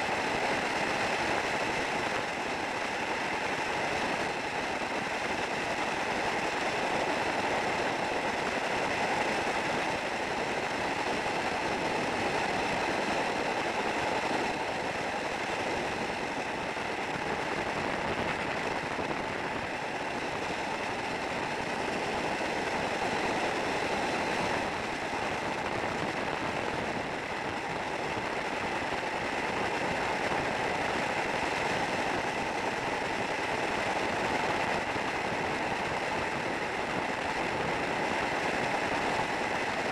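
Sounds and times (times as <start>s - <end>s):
freefall wind roar on microphone: 0.0s - 39.9s.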